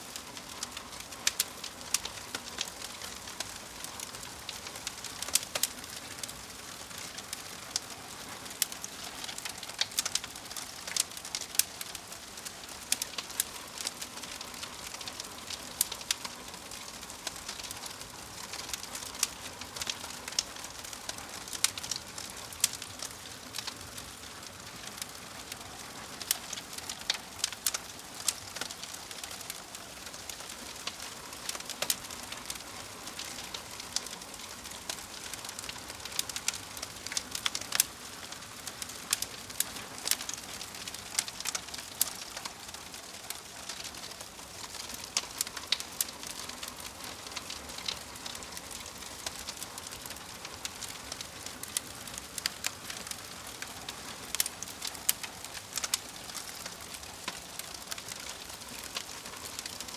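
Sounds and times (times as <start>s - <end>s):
logs crackling and popping: 0.0s - 59.9s
soft fire hiss: 0.0s - 59.9s.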